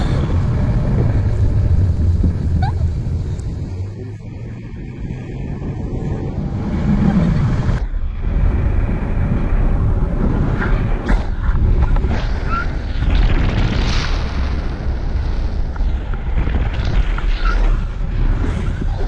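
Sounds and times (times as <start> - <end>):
wind buffeting a microphone: 0.0 - 19.0.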